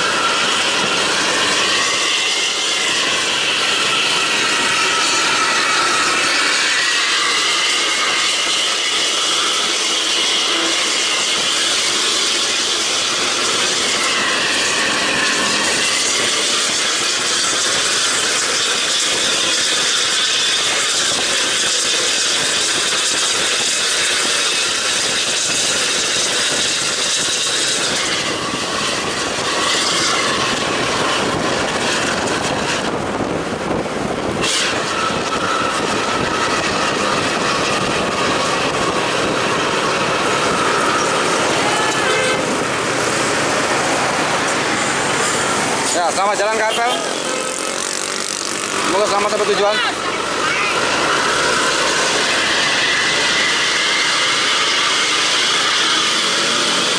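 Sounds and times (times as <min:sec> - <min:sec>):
bus engine and exhaust: 0:00.0 - 0:56.9
high wavering whine: 0:00.0 - 0:56.9
wind and road rush: 0:00.0 - 0:56.9.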